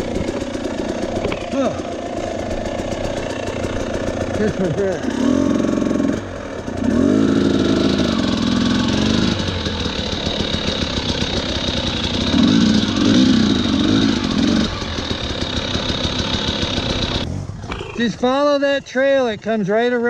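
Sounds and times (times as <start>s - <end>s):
dirt bike engine revving: 0.0s - 19.5s.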